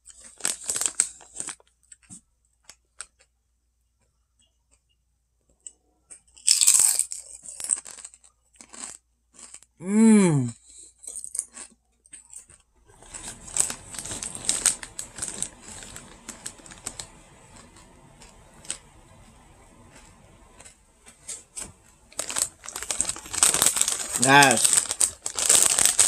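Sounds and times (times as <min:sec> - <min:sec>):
person chewing potato chips: 0:00.0 - 0:03.3, 0:05.6 - 0:26.0.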